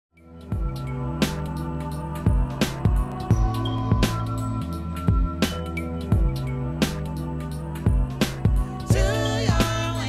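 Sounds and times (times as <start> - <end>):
instrumental theme music: 0.2 - 10.0
music beats: 0.5 - 10.0.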